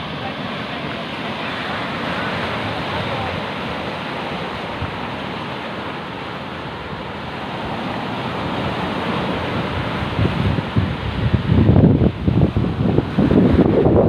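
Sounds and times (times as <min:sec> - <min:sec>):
sea waves and surf rushing: 0:00.0 - 0:14.0
wind gusting on microphone: 0:00.0 - 0:14.0.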